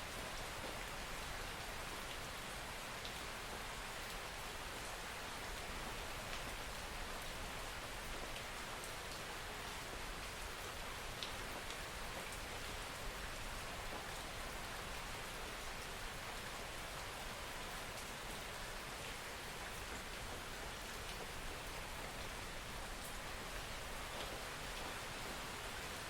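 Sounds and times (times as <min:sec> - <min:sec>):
soft rain falling: 0:00.0 - 0:26.0.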